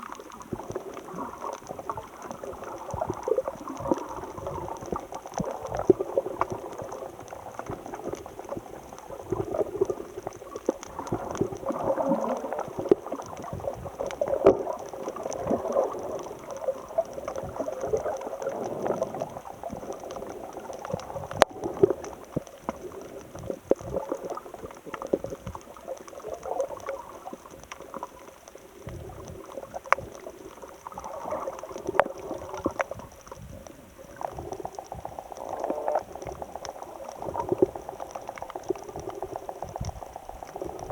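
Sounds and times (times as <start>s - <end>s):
sea water sloshing: 0.0s - 40.9s.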